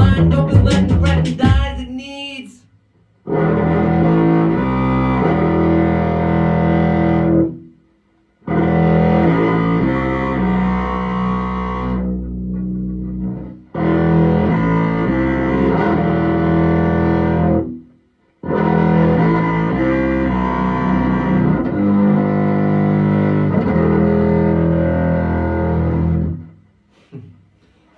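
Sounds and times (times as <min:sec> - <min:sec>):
upright bass music with effects: 0:00.0 - 0:02.0, 0:03.2 - 0:26.6.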